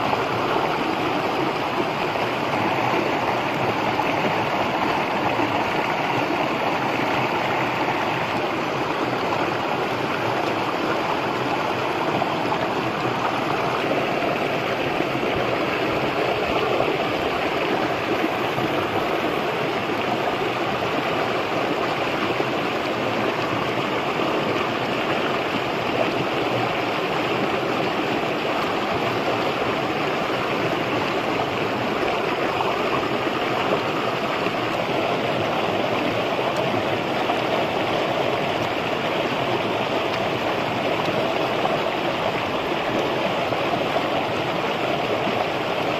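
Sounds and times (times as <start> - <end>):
stream rushing over stones: 0.0 - 45.9.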